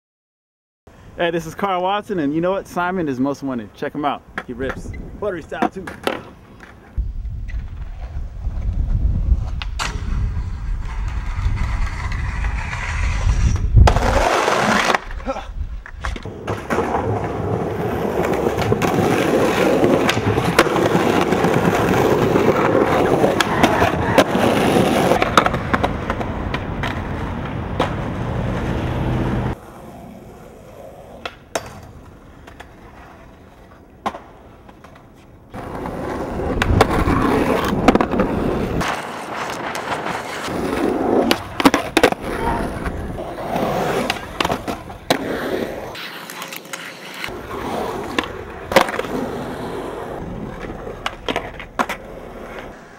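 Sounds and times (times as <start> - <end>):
skateboard wheels rolling on concrete: 1.0 - 52.9.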